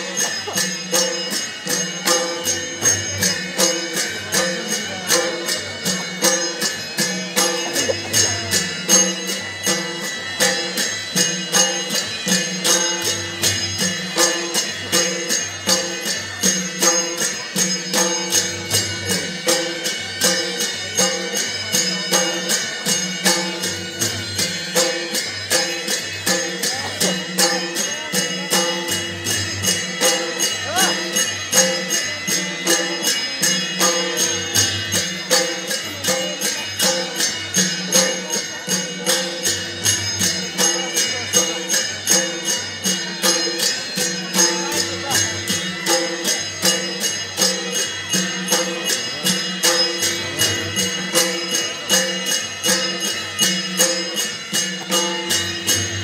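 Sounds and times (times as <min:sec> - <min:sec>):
fast metal cymbal strikes: 0:00.0 - 0:56.0.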